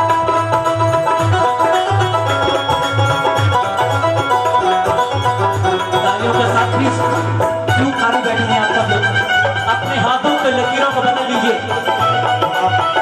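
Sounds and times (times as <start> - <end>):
busy melody line: 0.0 - 13.0
low drum beat: 0.0 - 13.0.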